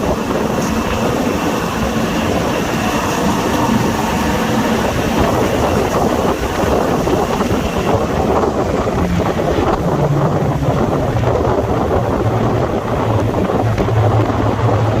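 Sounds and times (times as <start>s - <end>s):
diesel engines roaring: 0.0s - 15.0s
low steady drone: 0.0s - 15.0s
wind rush: 0.0s - 15.0s.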